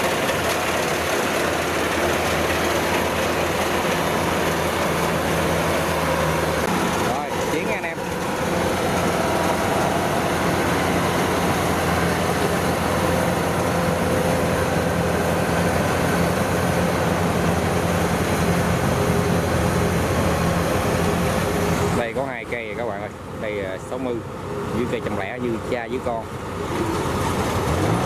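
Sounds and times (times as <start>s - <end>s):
combine harvester diesel engine: 0.0s - 28.0s.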